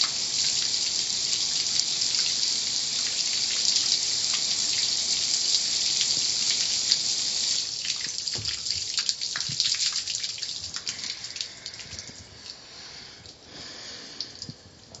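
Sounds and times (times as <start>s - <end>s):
water drips and splashes: 0.0s - 13.5s, 14.1s - 15.0s.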